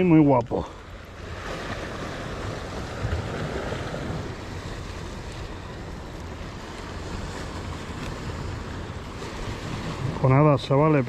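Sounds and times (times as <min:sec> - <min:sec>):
sea wash: 0:00.0 - 0:11.0
wind buffeting microphone: 0:00.0 - 0:11.0.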